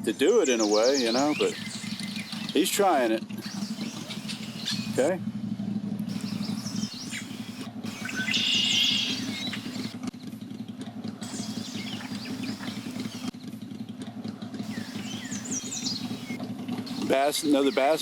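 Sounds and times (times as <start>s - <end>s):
birds chirping: 0.0s - 10.4s, 11.2s - 13.4s, 14.6s - 18.0s
engine running at low revs: 0.0s - 18.0s.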